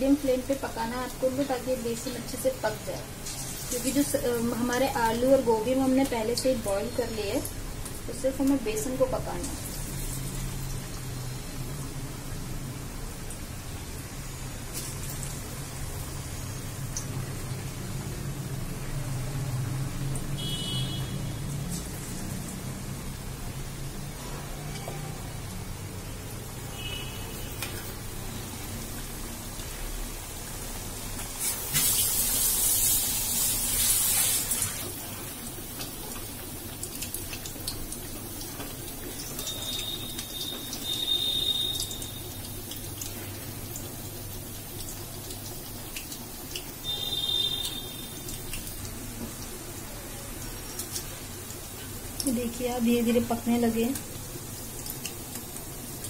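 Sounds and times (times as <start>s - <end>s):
food deep-frying in sizzling oil: 0.0s - 56.0s.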